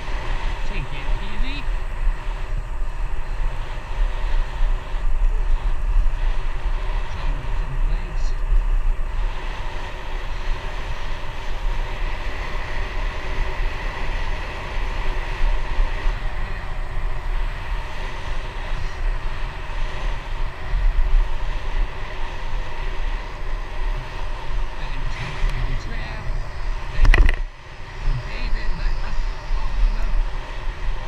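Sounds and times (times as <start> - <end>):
bike tyres rolling on asphalt: 0.0 - 31.0
wind buffeting microphone: 0.0 - 31.0.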